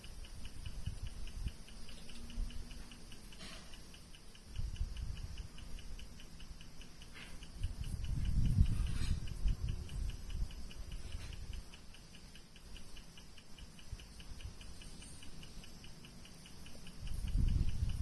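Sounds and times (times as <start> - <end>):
high-pitched electronic ticking: 0.0 - 18.0.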